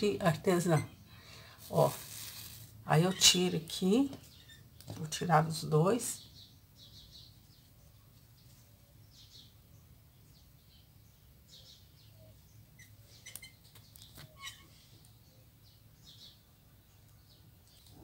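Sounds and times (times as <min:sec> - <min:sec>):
bird chirping faintly: 0:03.0 - 0:18.0.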